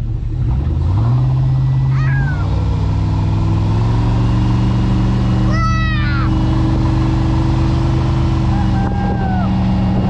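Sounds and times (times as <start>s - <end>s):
boat engine revving: 0.0s - 10.0s.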